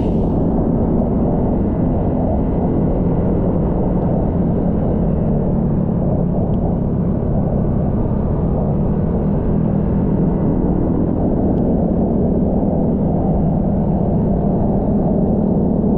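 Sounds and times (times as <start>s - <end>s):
muffled wind rumble: 0.0s - 15.9s.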